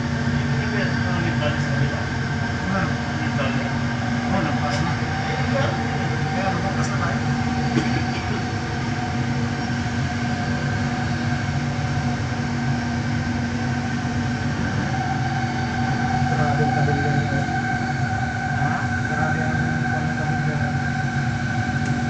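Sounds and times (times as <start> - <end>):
steady motor whine: 0.0 - 22.0
train running rumble: 0.0 - 22.0.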